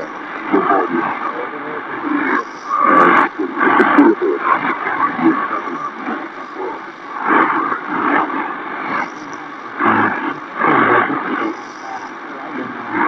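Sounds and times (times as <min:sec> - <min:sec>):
blurred radio voice: 0:00.0 - 0:13.0
radio static hiss: 0:00.0 - 0:13.0.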